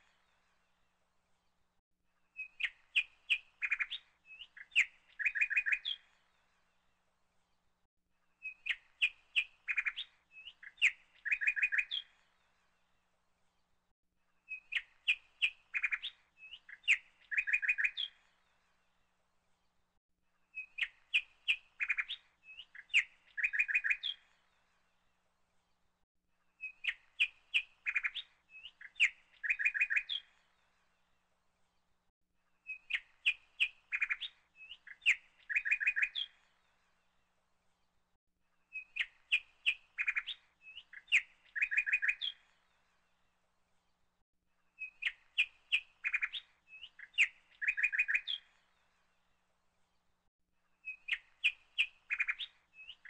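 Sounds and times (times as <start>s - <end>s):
birds chirping and twittering: 2.3s - 7.0s, 8.4s - 13.7s, 14.4s - 19.2s, 20.5s - 25.8s, 26.5s - 31.3s, 32.6s - 38.0s, 38.6s - 44.0s, 44.6s - 53.0s.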